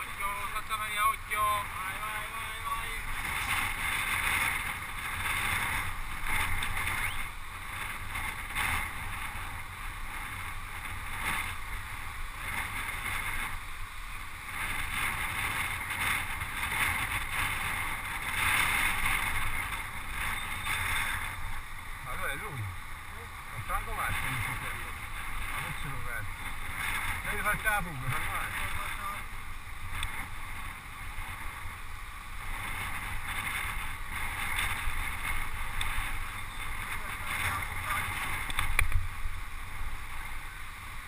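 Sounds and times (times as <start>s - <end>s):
bicycle tyre and road rumble: 0.0s - 41.0s
wind rushing over microphone: 0.0s - 41.0s.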